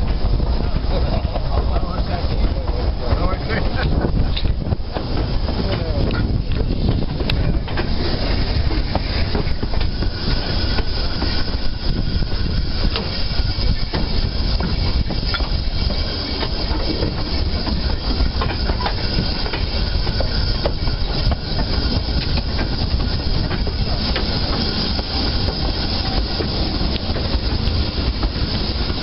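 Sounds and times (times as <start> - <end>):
steam locomotive rumble: 0.0 - 29.0
wheels clicking on rails: 0.0 - 29.0.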